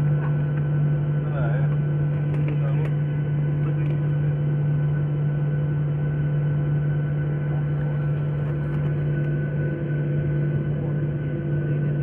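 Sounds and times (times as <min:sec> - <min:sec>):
jet engines humming in cabin: 0:00.0 - 0:12.0.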